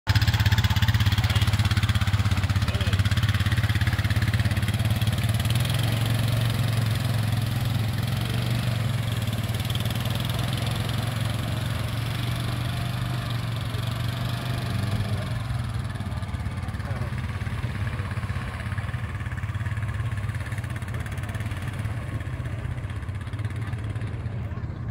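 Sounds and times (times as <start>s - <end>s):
atv engine running: 0.1s - 24.9s.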